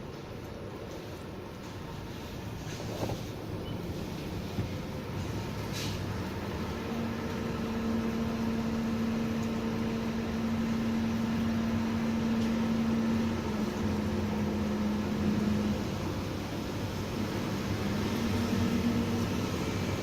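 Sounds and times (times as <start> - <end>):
low mechanical hum: 0.0 - 20.0
rain hissing: 0.9 - 20.0.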